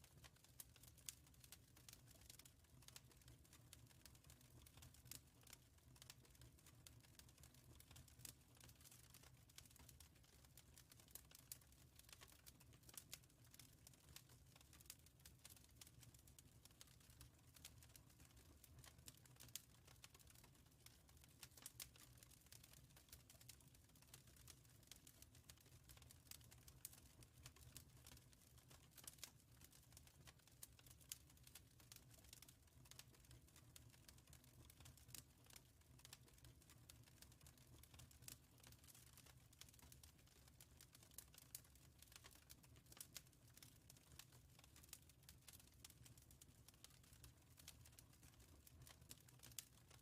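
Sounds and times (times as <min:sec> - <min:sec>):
wood fire snaps and pops: 0:00.0 - 0:50.0.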